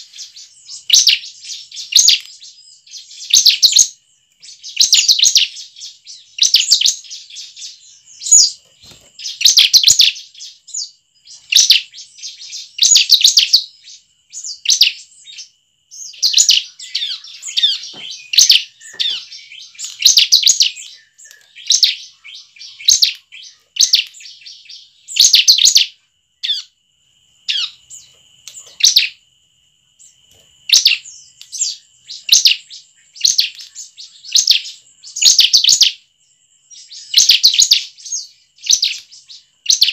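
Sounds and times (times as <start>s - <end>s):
bird high rapid chirping: 0.0s - 26.7s, 27.4s - 29.2s, 30.0s - 36.0s, 36.7s - 39.9s.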